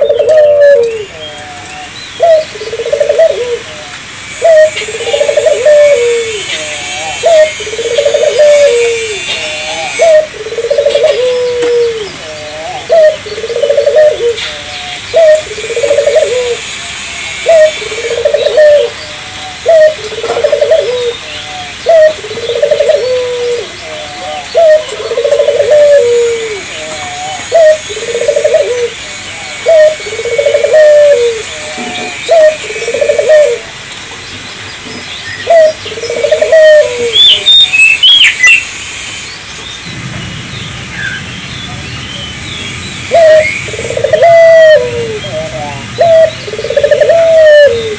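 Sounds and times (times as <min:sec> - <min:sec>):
dove cooing: 0:00.0 - 0:33.8, 0:35.4 - 0:38.6, 0:43.1 - 0:47.9.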